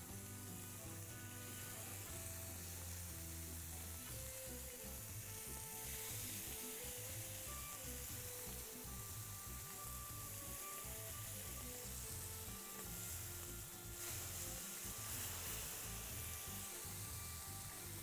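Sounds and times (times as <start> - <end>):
background music: 0.0 - 18.0
chicken sizzling on grill pan: 0.0 - 18.0.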